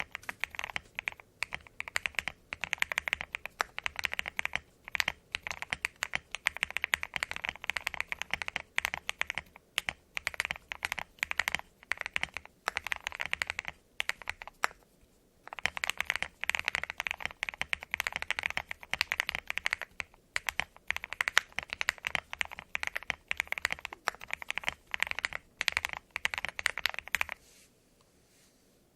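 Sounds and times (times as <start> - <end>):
mechanical keyboard typing: 0.0 - 14.8, 15.5 - 27.4.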